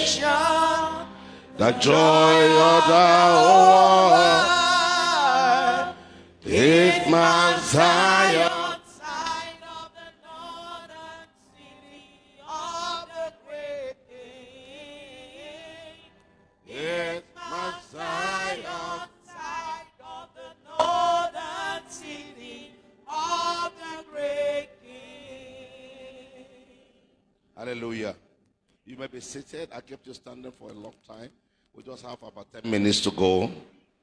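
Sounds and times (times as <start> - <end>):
slow worship singing: 0.0 - 28.0.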